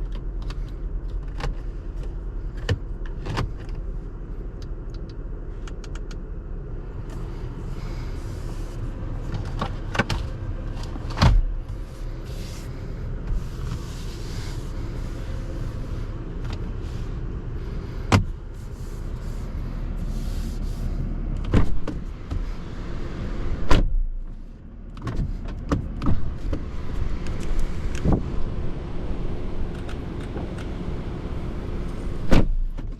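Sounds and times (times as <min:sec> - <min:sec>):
tyre and road rumble: 0:00.0 - 0:32.9.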